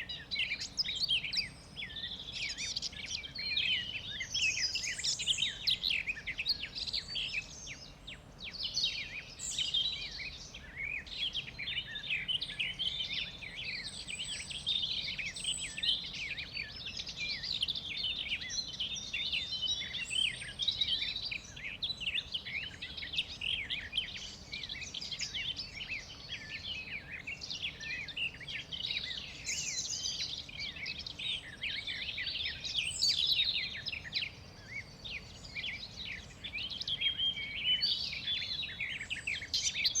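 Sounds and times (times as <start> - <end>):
faint background hiss: 0.0 - 40.0
forest birds chirping: 0.0 - 40.0.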